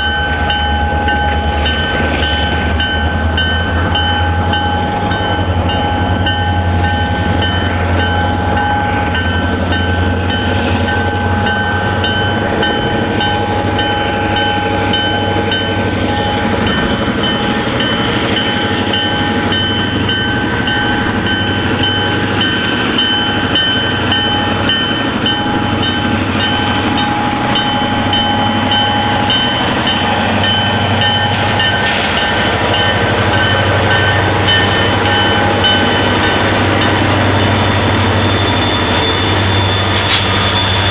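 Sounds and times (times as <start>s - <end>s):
freight train rumbling on rails: 0.0s - 40.9s.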